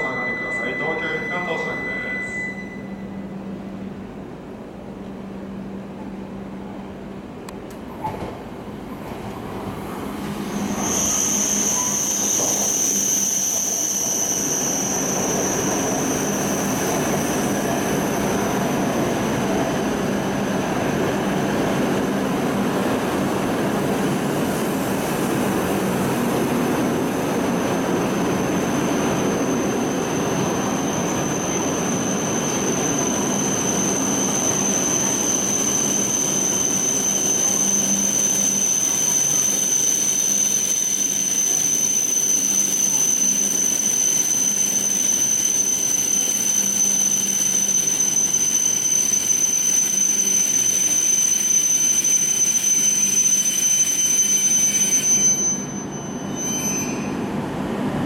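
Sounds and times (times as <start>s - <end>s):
high-pitched train squeal: 0.0s - 3.6s, 9.9s - 57.9s
rumble of train cars: 0.0s - 58.0s.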